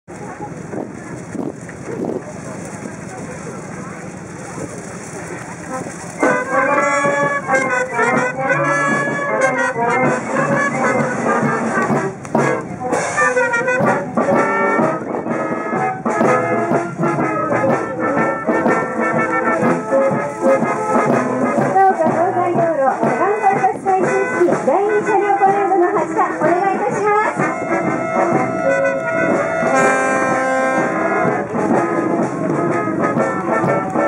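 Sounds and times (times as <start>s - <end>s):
brass band playing a march: 5.2s - 34.0s.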